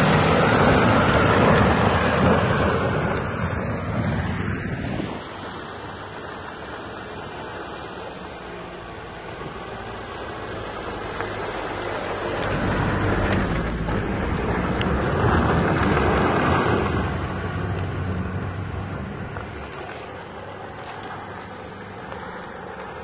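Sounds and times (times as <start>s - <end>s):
vehicle driving through mud: 0.0s - 23.0s.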